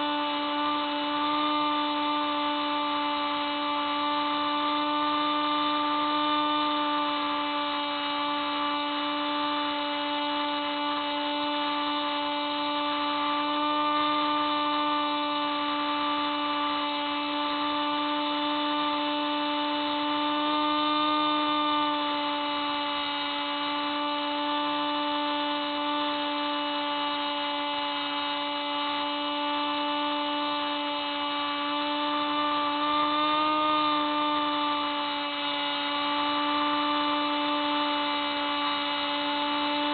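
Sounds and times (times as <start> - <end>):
model plane motor whining: 0.0 - 39.9.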